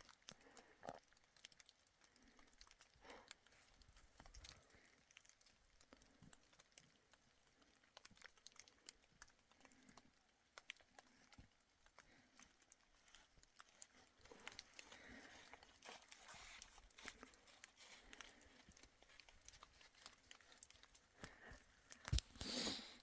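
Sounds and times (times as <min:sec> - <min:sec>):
faint small clicks and ticks: 0:00.0 - 0:23.0.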